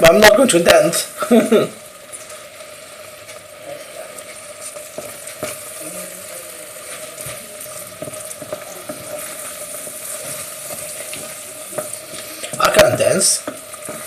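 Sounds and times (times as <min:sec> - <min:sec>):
risotto sizzling in a pan: 0:00.0 - 0:14.0.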